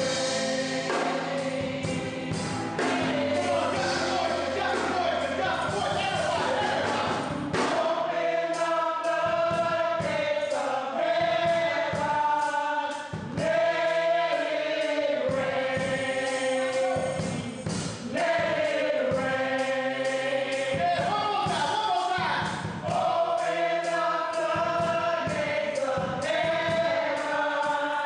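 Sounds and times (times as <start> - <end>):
gospel choir singing: 0.0 - 28.0
instrumental accompaniment with beat: 0.0 - 28.0.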